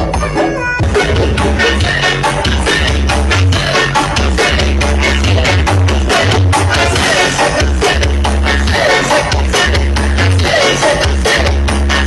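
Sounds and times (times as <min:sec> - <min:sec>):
loud music with booming bass: 0:00.0 - 0:12.0.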